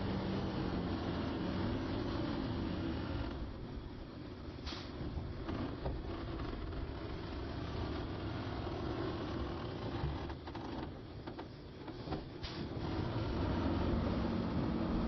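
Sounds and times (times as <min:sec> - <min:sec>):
heavy diesel machinery rumbling: 0:00.0 - 0:15.0.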